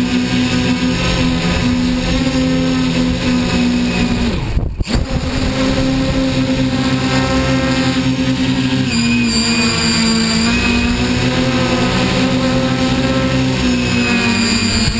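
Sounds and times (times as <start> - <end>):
drone propellers whining: 0.0 - 14.9.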